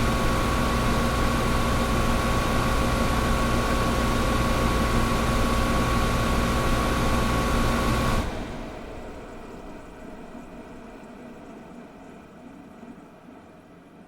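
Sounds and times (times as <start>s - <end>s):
air conditioner humming: 0.0s - 13.9s.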